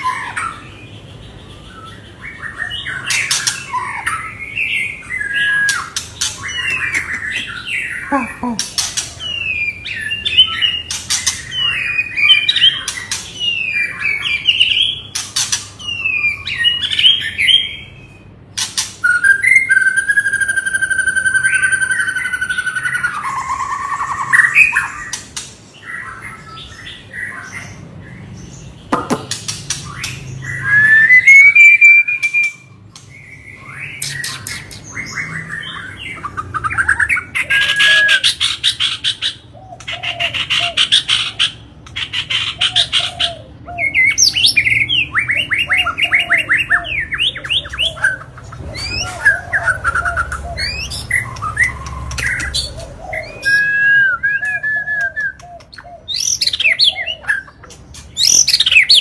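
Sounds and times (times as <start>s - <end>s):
bird singing varied song: 0.0s - 59.0s.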